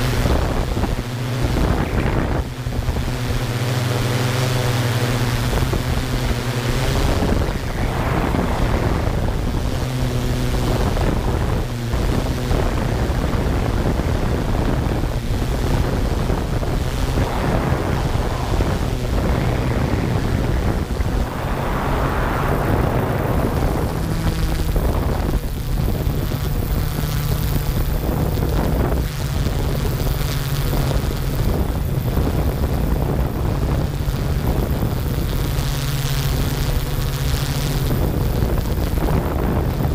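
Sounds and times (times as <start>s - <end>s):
drone propellers droning: 0.0s - 39.9s
wind buffeting microphone: 0.0s - 39.9s.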